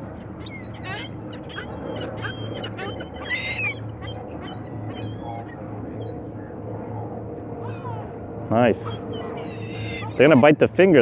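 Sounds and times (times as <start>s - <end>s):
birds chirping: 0.0s - 6.6s, 7.6s - 11.0s
low steady hum: 0.0s - 11.0s.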